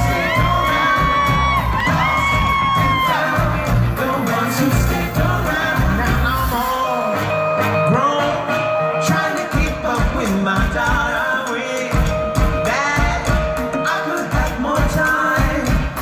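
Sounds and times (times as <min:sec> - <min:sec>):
live pop rock band: 0:00.0 - 0:16.0
vocalists singing: 0:00.0 - 0:16.0.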